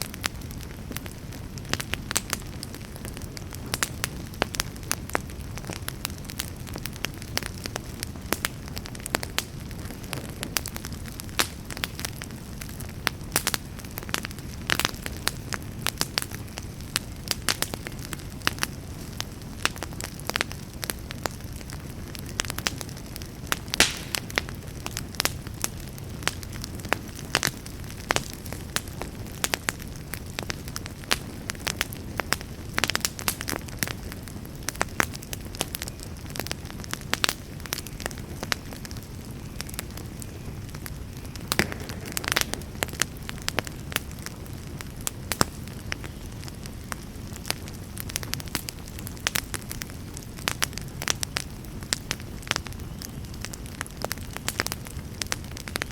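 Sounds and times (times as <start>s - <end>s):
campfire crackling and popping: 0.0s - 55.9s
low rush of fire: 0.0s - 55.9s.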